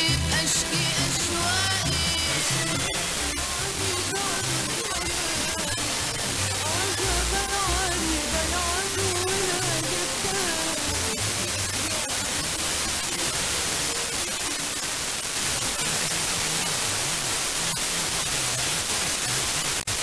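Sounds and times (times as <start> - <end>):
distant radio music: 0.0 - 20.0
radio static hiss: 0.0 - 20.0.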